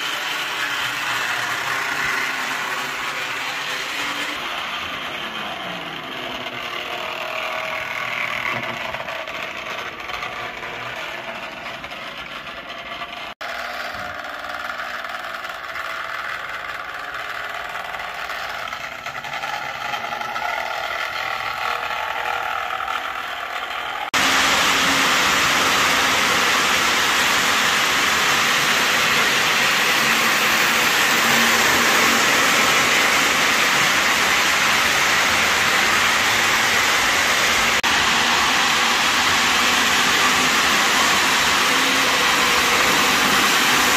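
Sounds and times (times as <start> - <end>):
model train rumbling on track: 0.0 - 43.9.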